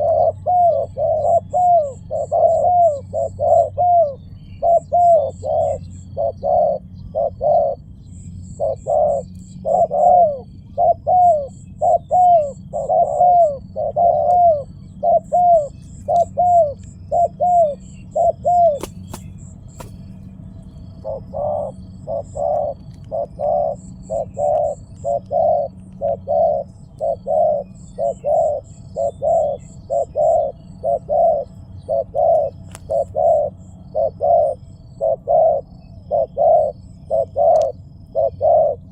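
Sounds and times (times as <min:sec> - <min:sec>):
dove cooing: 0:00.0 - 0:07.9, 0:08.5 - 0:20.1, 0:20.8 - 0:38.9.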